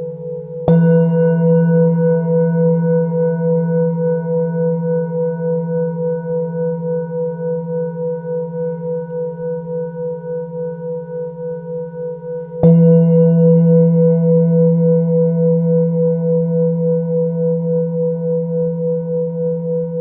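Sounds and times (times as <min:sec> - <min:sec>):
singing bowl being struck: 0:00.0 - 0:20.0
singing bowl ringing: 0:00.0 - 0:20.0.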